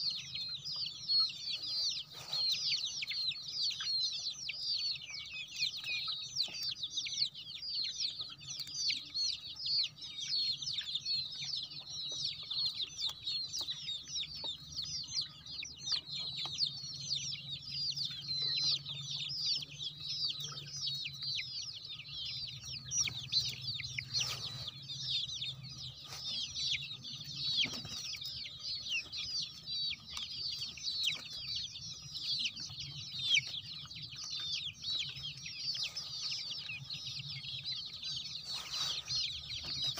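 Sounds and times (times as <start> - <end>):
chicks peeping and chirping: 0.0 - 39.9.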